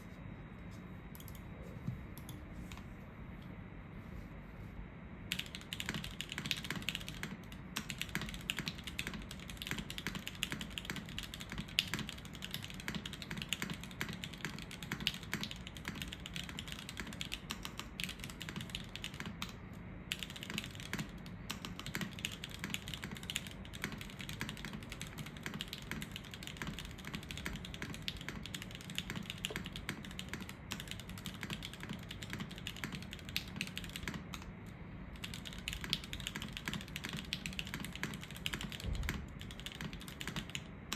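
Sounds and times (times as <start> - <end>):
typing on mechanical keyboard: 5.3 - 34.5, 35.2 - 40.9.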